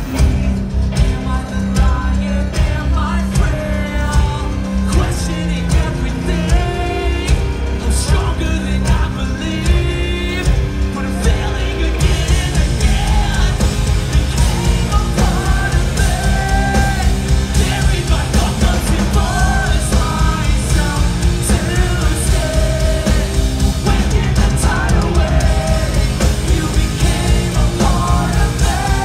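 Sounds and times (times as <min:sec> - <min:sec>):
drums: 0:00.0 - 0:29.0
electric guitars: 0:00.0 - 0:29.0
person singing lead vocal: 0:00.0 - 0:29.0.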